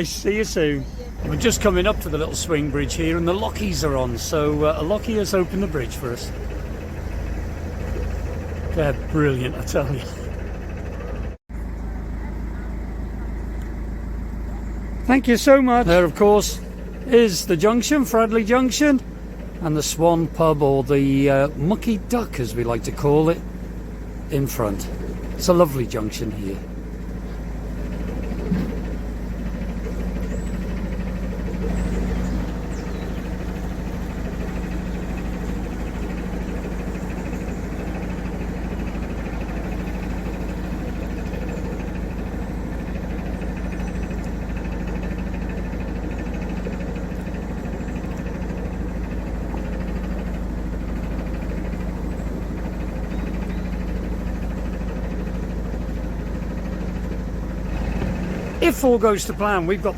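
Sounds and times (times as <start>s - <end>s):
boat engine running at low revs: 0.0s - 59.9s.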